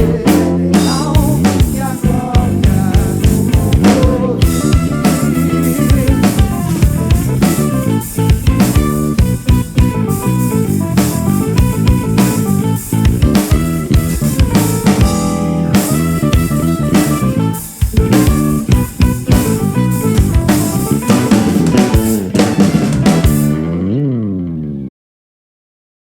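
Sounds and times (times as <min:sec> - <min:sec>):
drum kit: 0:00.0 - 0:23.7
soul band playing: 0:00.0 - 0:23.9
guitar: 0:00.0 - 0:24.9.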